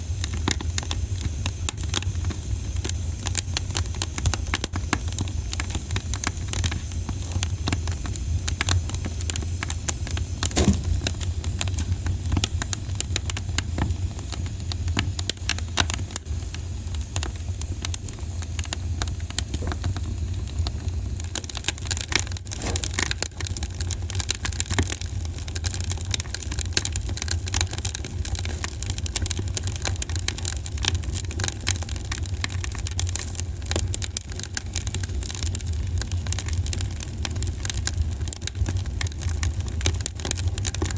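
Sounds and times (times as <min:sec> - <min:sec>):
campfire crackling: 0:00.2 - 0:40.9.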